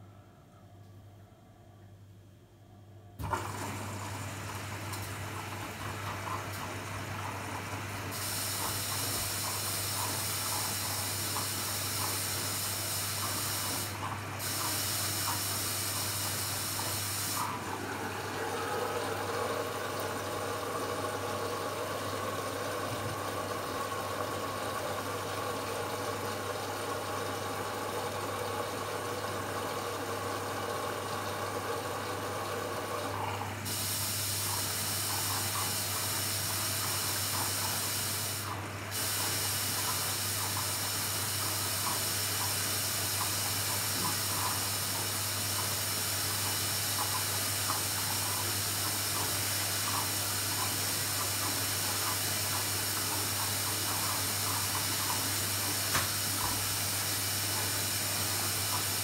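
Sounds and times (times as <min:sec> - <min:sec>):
water hissing into washing machine: 0:03.2 - 0:59.0.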